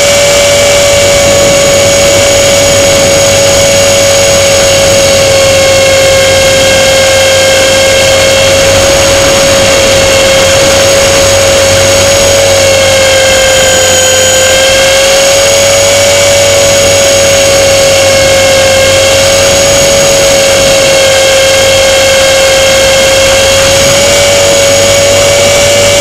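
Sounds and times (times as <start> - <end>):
model plane motor droning: 0.0 - 26.0.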